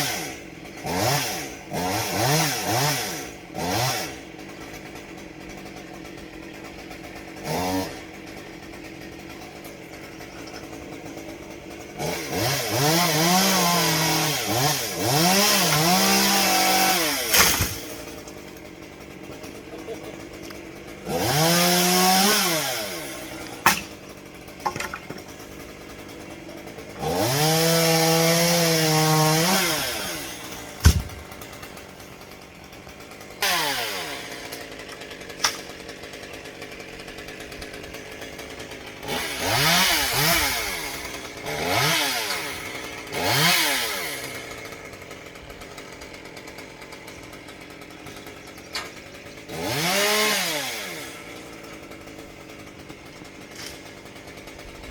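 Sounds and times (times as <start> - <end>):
chainsaw revving and idling: 0.0 - 54.9.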